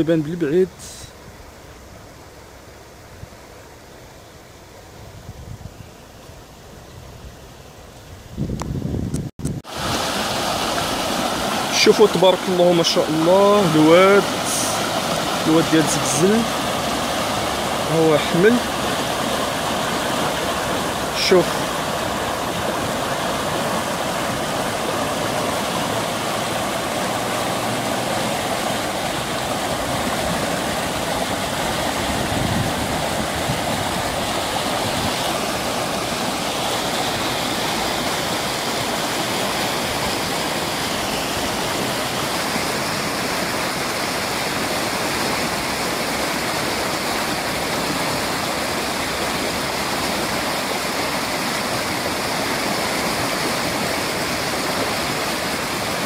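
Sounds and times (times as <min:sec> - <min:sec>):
floodwater rushing over rocks: 0:09.4 - 0:56.0.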